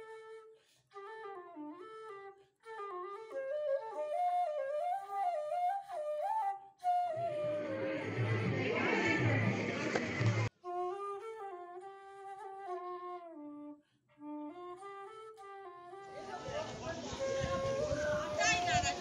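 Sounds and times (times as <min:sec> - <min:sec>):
flute melody: 0:00.0 - 0:19.0.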